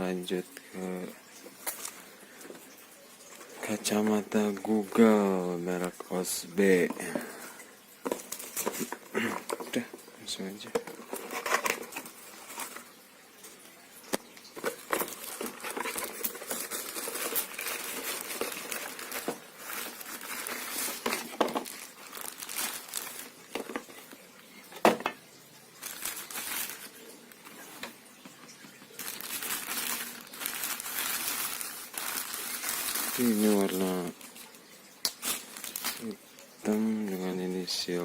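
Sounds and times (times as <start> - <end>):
packaging crinkling: 1.6 - 5.2, 6.7 - 13.0, 14.0 - 25.2, 25.8 - 37.3.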